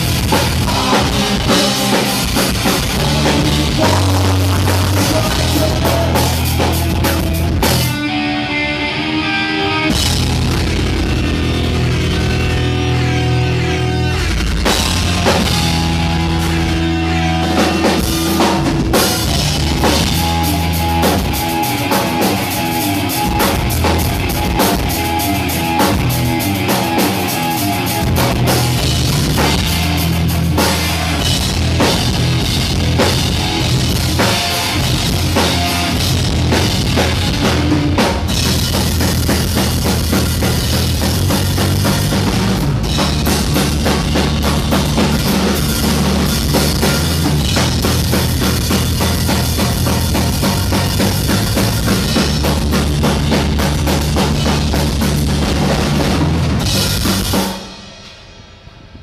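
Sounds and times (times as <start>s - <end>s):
drum kit beat: 0.0s - 8.0s, 9.9s - 58.3s
electric guitar: 0.0s - 59.0s
punk rock band playing: 0.0s - 59.0s.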